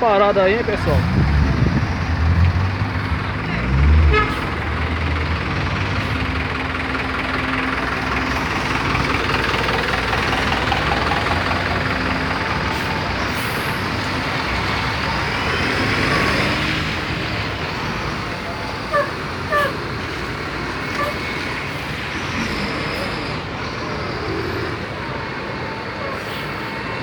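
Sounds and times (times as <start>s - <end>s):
bus and truck engines idling: 0.0s - 27.0s
road noise: 0.0s - 27.0s.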